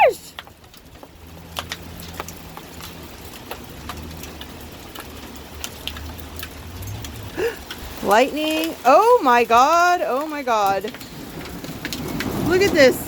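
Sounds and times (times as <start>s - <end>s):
hail pattering: 0.0s - 13.0s
hailstones clicking on hard surfaces: 0.1s - 13.0s.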